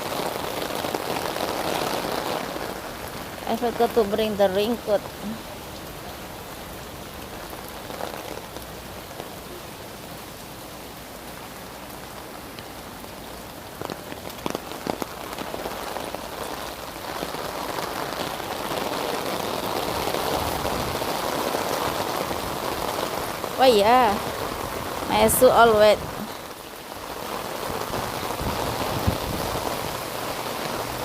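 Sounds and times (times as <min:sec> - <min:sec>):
heavy rain splashing: 0:00.0 - 0:31.0.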